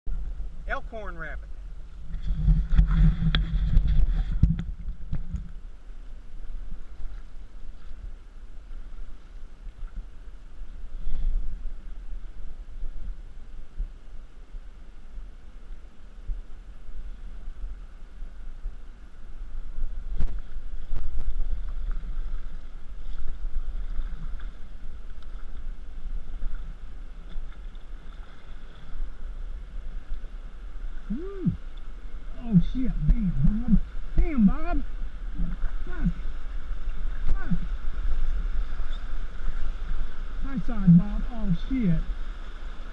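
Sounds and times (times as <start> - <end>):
kayak paddling on water: 0.1 - 42.9
low wind rumble on microphone: 0.1 - 42.9.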